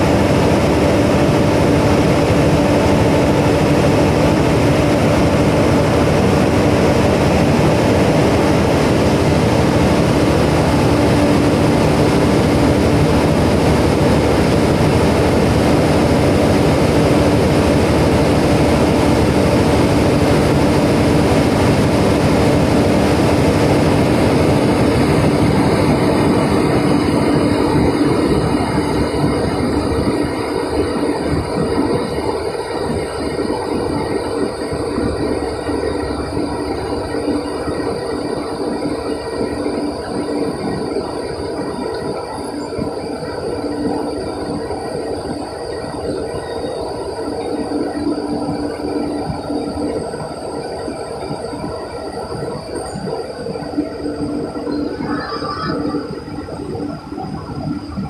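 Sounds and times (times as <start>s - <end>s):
train mechanical hum: 0.0s - 58.0s.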